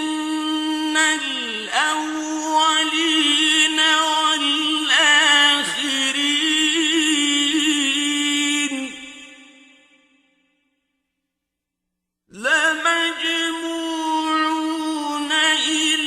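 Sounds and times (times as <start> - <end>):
man chanting melodically: 0.0 - 9.8, 12.3 - 16.0.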